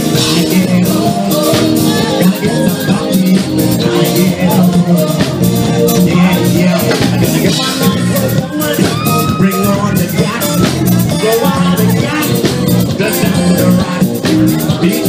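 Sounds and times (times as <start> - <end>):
live band dance groove: 0.0 - 15.0
person singing through pa: 0.0 - 15.0.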